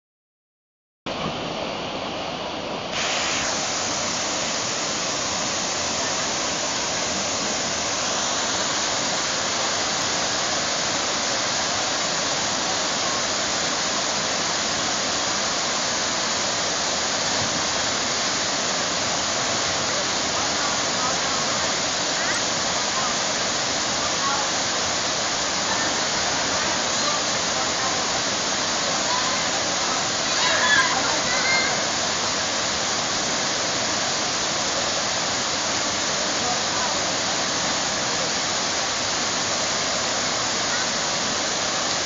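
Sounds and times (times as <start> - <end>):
waterfall rushing: 1.1 - 42.0.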